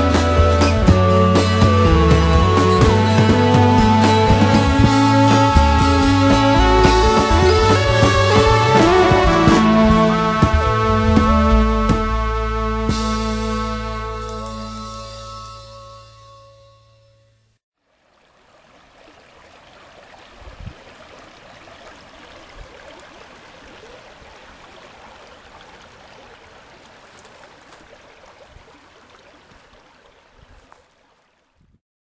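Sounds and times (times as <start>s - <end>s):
creek water flowing: 0.0s - 11.9s, 17.8s - 31.8s.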